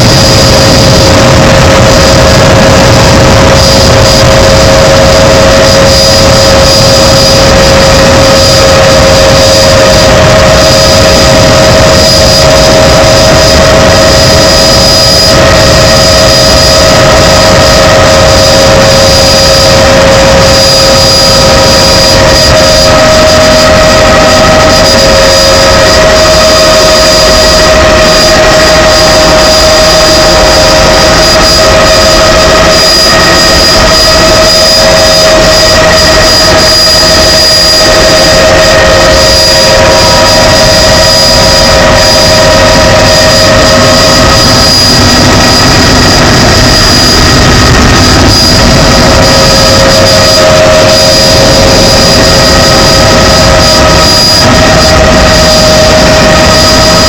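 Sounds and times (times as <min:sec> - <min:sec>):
helicopter flying: 0:00.0 - 0:57.0.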